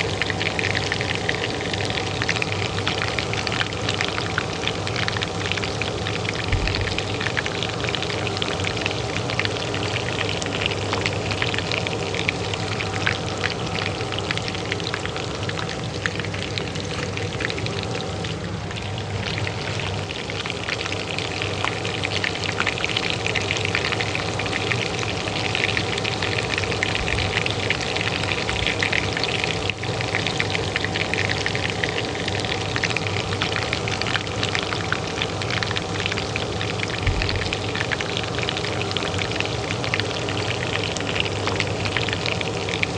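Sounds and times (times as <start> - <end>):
oil frying in a pan: 0.0 - 42.9
range hood fan hum: 0.0 - 42.9.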